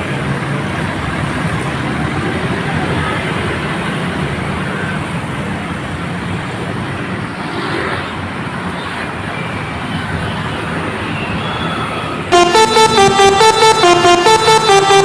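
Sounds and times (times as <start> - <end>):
passing vehicles on road: 0.0 - 12.3.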